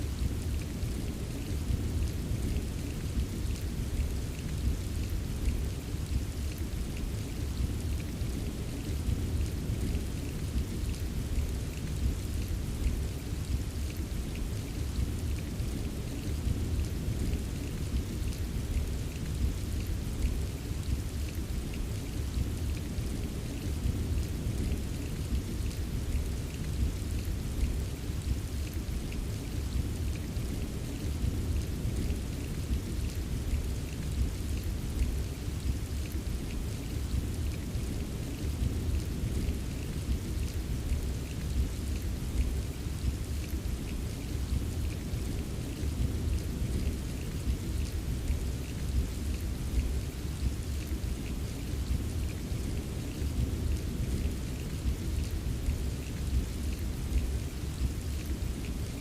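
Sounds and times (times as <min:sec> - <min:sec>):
rain rumbling: 0:00.0 - 0:59.0
raindrop patter: 0:00.0 - 0:59.0.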